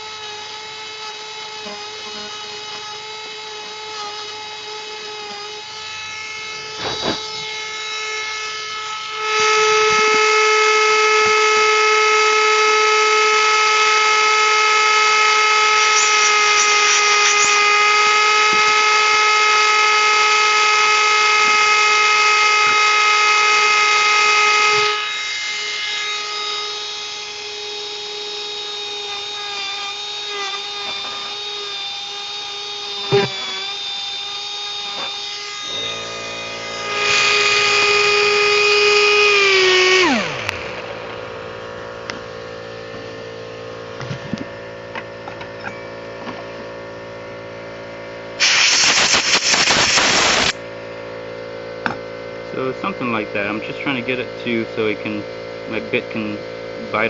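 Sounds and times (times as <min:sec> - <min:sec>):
air die grinder whining: 0:00.0 - 0:57.0.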